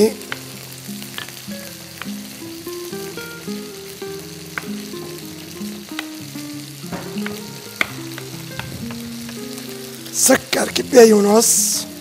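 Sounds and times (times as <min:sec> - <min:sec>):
background music: 0:00.0 - 0:12.0
steady hiss: 0:00.0 - 0:12.0.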